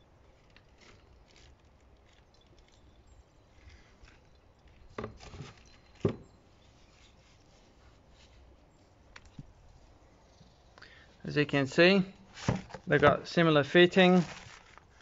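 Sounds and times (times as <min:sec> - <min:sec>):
faint rustling: 0:00.2 - 0:15.0.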